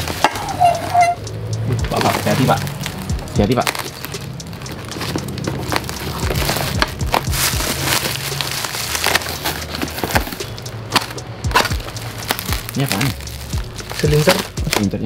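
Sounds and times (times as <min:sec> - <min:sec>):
bubble wrap and tape tearing: 0:00.0 - 0:01.2, 0:01.8 - 0:15.0.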